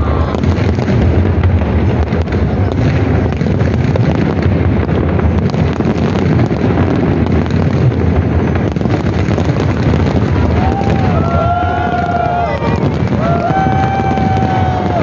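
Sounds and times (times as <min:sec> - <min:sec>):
firework booms and crackles: 0:00.0 - 0:15.0.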